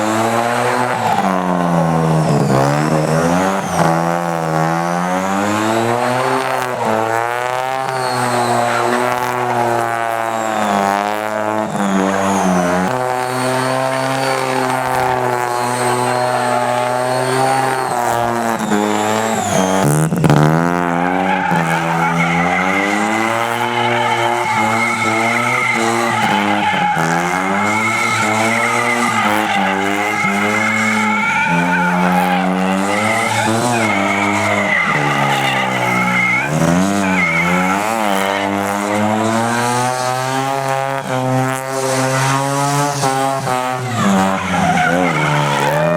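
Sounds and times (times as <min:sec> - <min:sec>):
high steady squeal: 0:00.0 - 0:41.1
lawn mower engine revving: 0:00.0 - 0:45.9.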